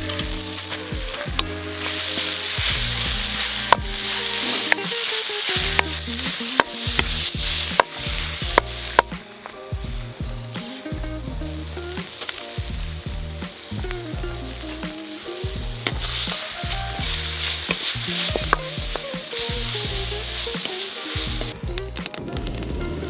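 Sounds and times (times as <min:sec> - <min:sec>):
food sizzling in hot pan: 0:00.0 - 0:21.6
soft background music: 0:00.0 - 0:23.0.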